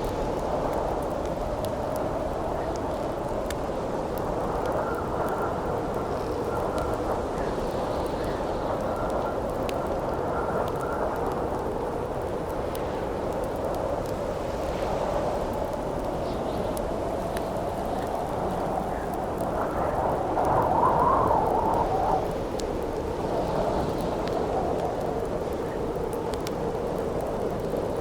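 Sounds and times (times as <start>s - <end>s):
crackling campfire: 0.0s - 28.0s
howling wind: 0.0s - 28.0s.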